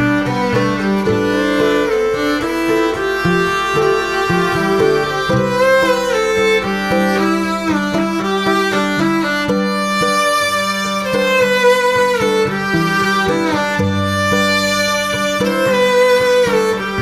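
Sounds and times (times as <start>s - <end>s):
held low note: 0.0s - 17.0s
plucked strings pulse: 0.0s - 17.0s
violin melody with sliding notes: 0.0s - 17.0s.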